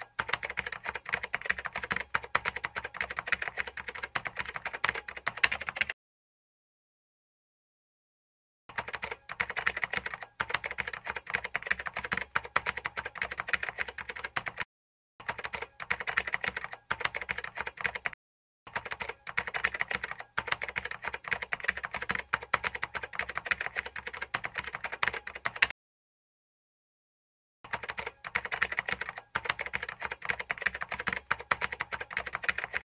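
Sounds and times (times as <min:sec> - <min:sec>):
keyboard typing clicks: 0:00.0 - 0:06.0, 0:08.7 - 0:25.7, 0:27.7 - 0:32.8.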